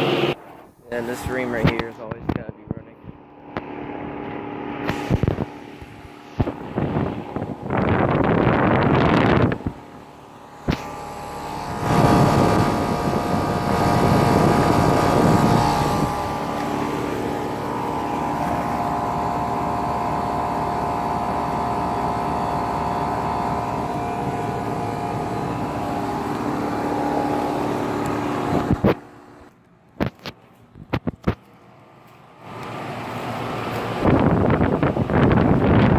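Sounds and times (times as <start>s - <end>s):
air conditioner fan rushing: 0.0s - 35.9s
compressor hum: 0.0s - 35.9s.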